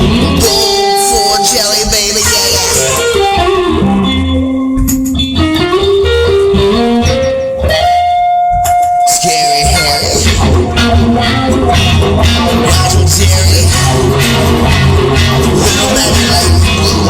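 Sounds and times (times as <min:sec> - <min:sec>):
bass guitar line: 0:00.0 - 0:17.0
electric guitar lead: 0:00.0 - 0:17.0.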